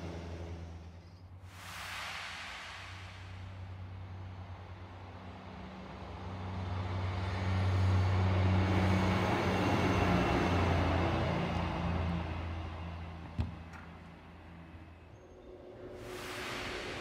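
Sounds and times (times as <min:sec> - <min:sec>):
train engine hum: 0:00.0 - 0:17.0
wheel and rail noise: 0:00.0 - 0:17.0.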